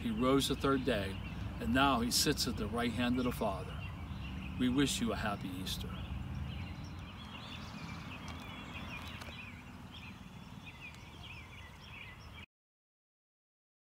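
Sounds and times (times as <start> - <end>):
birds chirping: 0.0 - 12.5.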